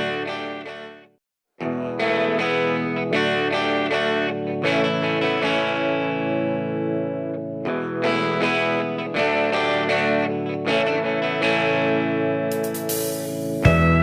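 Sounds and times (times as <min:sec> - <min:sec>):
plucked guitar chords ringing: 0:00.0 - 0:14.0.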